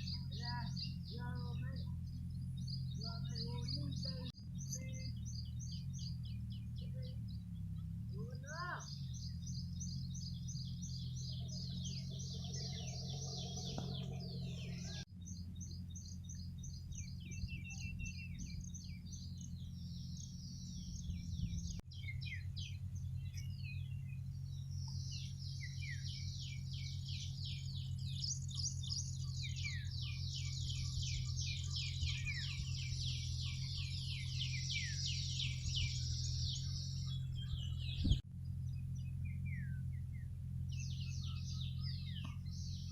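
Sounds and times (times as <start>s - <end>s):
low hum: 0.0s - 42.9s
small birds chirping: 0.0s - 42.9s.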